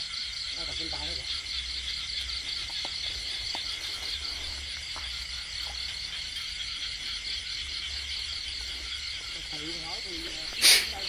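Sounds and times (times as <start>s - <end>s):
frogs trilling: 0.0s - 11.0s
insects trilling: 0.0s - 11.0s.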